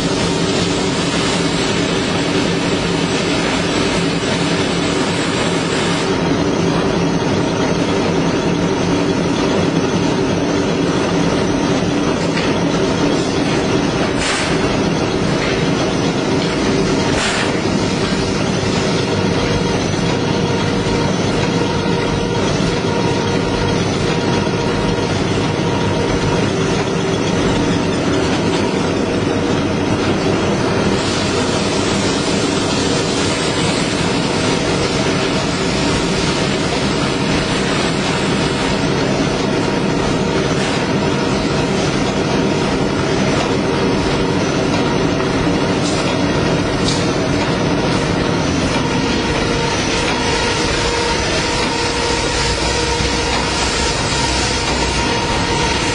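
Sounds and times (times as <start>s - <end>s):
machine din with hums: 0.0s - 55.9s.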